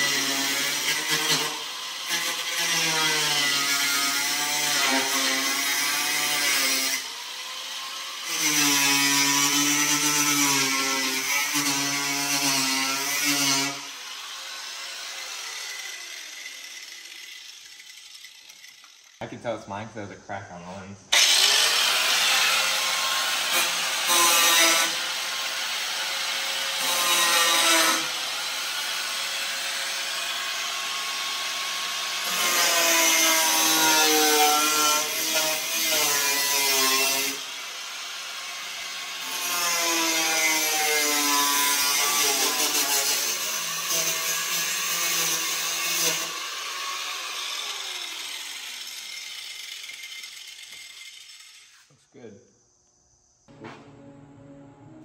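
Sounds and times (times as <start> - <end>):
angle grinder cutting sheet metal: 0.0 - 19.3, 21.1 - 51.9.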